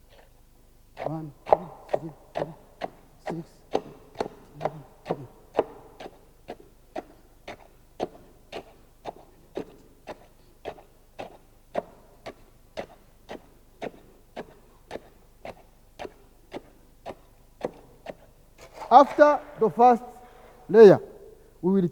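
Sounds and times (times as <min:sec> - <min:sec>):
rod tamping concrete dull knocks: 0:01.0 - 0:20.6.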